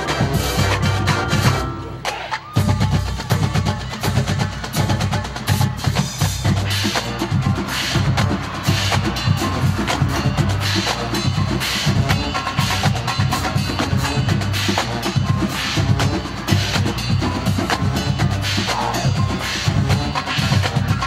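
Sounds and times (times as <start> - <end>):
marching band playing: 0.0 - 21.0
snare drums: 0.0 - 21.0
pulsing bass drums: 2.8 - 21.0.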